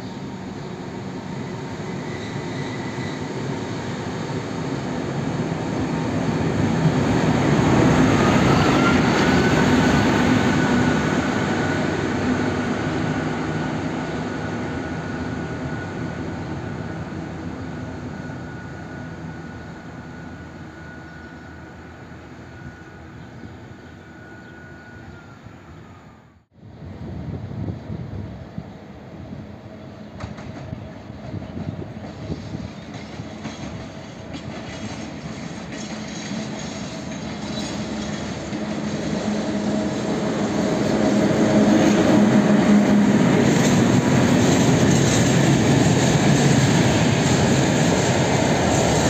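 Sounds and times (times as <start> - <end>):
diesel locomotive passing: 0.0 - 49.0.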